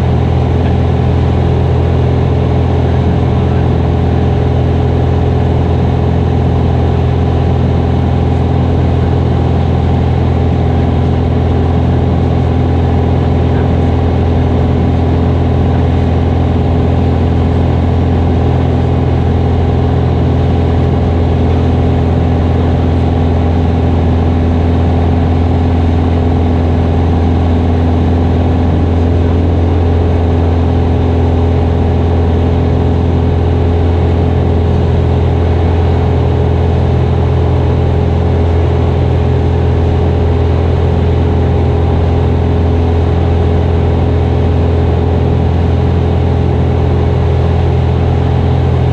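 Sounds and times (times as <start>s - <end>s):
light aircraft engine droning: 0.0s - 48.9s.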